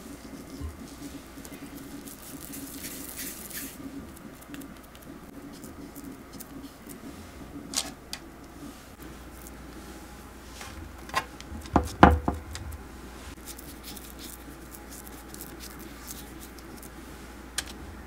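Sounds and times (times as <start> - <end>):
dough rustling: 0.0 - 18.0.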